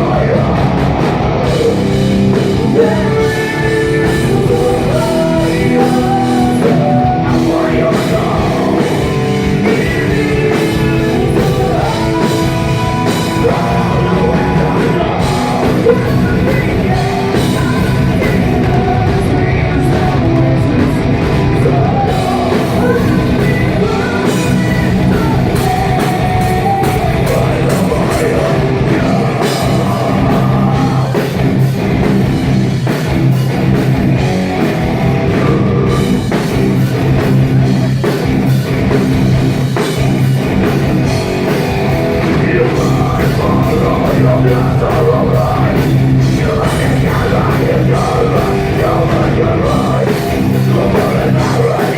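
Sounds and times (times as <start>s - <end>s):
distorted live metal band: 0.0s - 51.9s.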